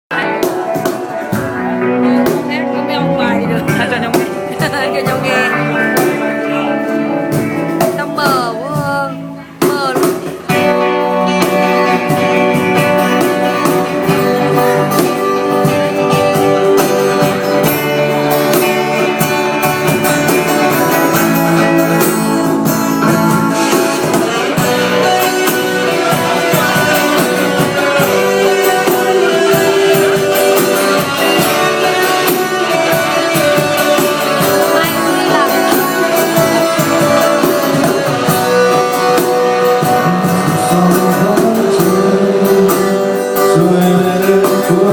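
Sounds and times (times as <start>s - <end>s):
instrumental guitar band music: 0.1s - 44.9s.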